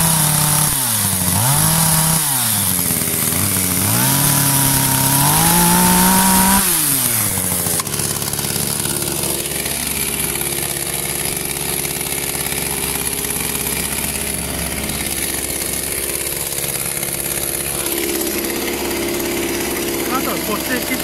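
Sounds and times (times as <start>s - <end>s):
chainsaw revving and idling: 0.0s - 21.0s.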